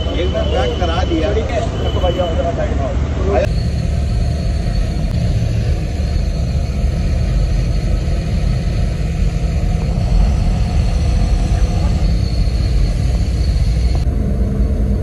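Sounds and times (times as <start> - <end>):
bus road and engine rumble: 0.0 - 15.0.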